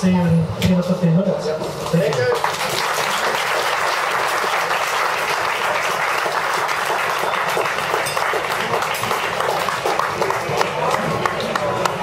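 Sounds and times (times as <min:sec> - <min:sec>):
audience applauding: 0:02.0 - 0:12.0.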